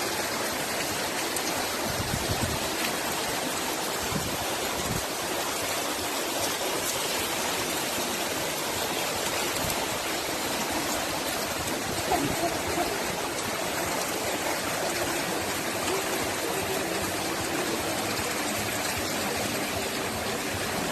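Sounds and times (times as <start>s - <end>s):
heavy rain and running water: 0.0s - 20.9s.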